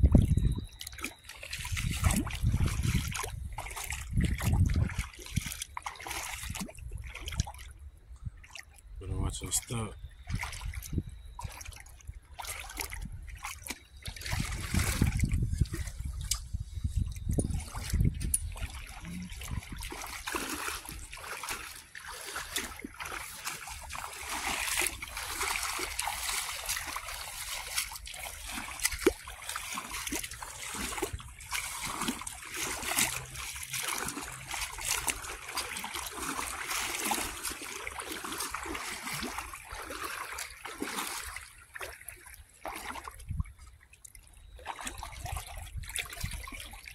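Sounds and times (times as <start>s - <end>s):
feet wading in water: 0.0s - 46.9s.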